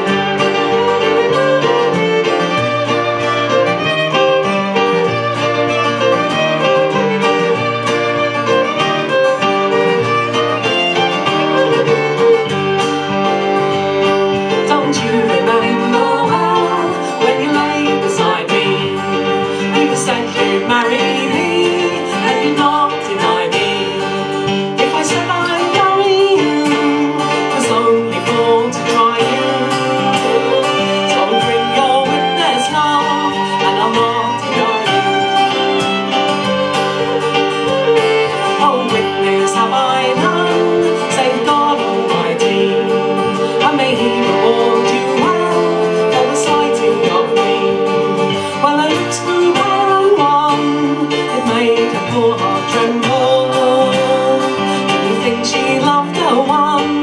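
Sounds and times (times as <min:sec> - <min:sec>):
fiddle melody: 0:00.0 - 0:57.0
keyboard accompaniment: 0:00.0 - 0:57.0
strummed acoustic guitar: 0:00.0 - 0:57.0.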